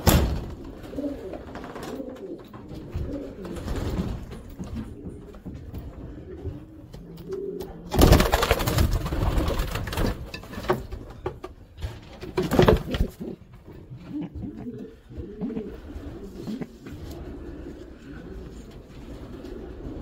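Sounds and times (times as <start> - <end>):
pigeons cooing: 0.0 - 11.3, 12.4 - 20.0.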